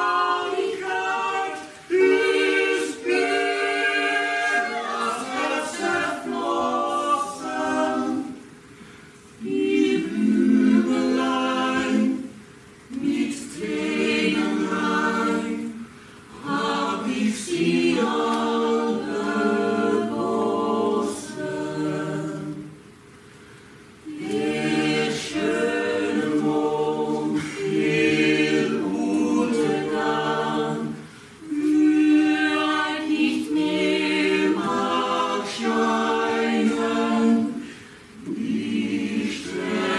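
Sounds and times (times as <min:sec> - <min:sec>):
mixed choir singing unaccompanied: 0:00.0 - 0:08.7, 0:09.4 - 0:23.0, 0:24.0 - 0:39.9.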